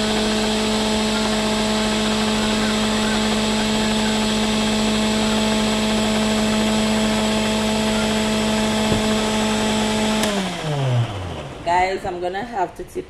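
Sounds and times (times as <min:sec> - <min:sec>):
electric blender running: 0:00.0 - 0:12.0.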